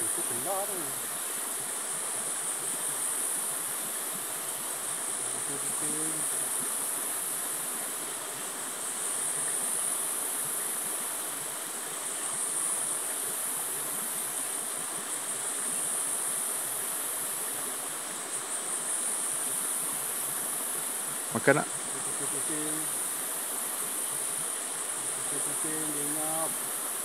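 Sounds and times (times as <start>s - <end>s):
flowing river water: 0.0s - 27.0s
insect chorus shrill drone: 0.0s - 27.0s.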